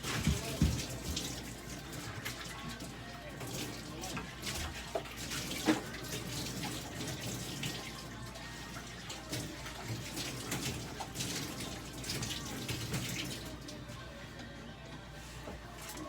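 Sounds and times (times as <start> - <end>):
water running and splashing: 0.0 - 14.0.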